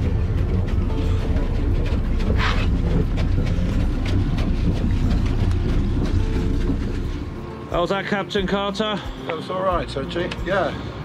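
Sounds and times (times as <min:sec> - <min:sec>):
motorboat engines rumbling: 0:00.0 - 0:11.0.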